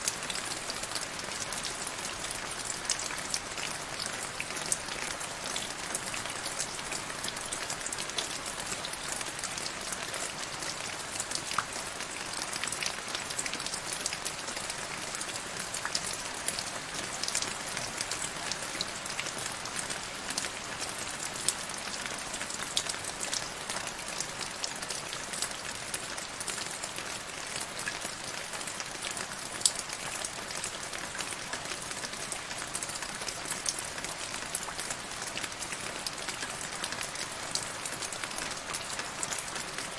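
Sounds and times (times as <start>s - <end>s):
rain falling into puddle: 0.0s - 39.9s.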